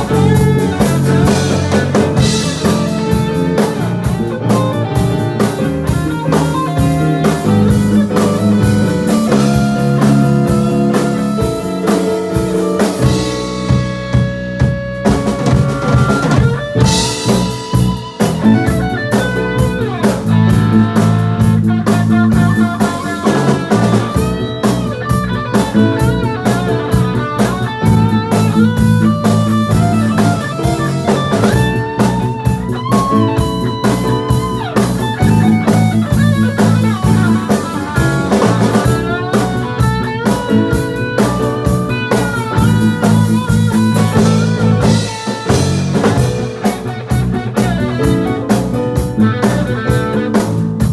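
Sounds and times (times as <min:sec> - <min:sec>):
drum kit: 0:00.0 - 0:50.9
electric guitar lead line: 0:00.0 - 0:50.9.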